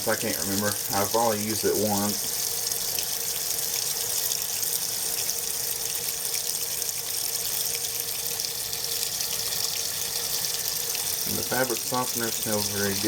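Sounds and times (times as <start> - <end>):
tap water running into tub: 0.0 - 13.0.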